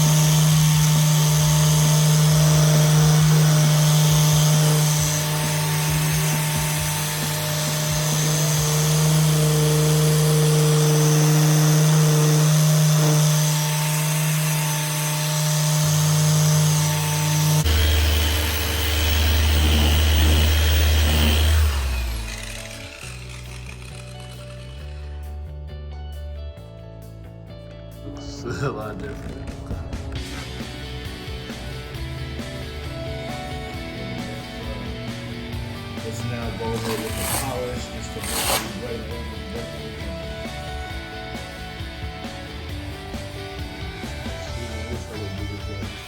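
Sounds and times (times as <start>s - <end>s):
polisher motor humming: 0.0s - 25.3s, 30.2s - 46.0s.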